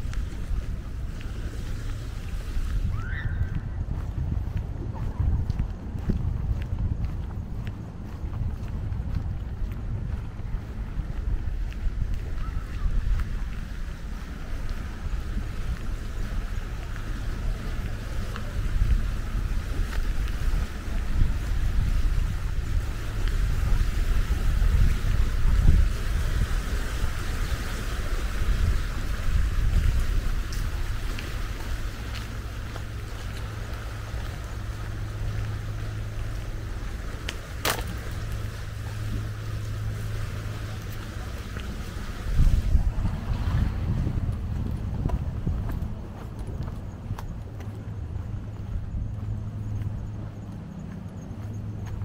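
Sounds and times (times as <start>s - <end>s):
faint outdoor hiss: 0.0s - 52.0s
low mechanical hum: 0.0s - 52.0s
wind buffeting microphone: 0.0s - 52.0s.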